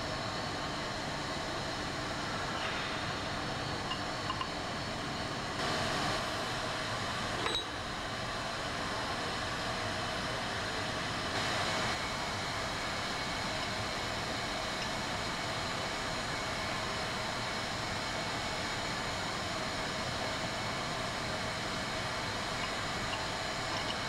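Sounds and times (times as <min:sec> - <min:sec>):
workshop background hiss: 0:00.0 - 0:24.0.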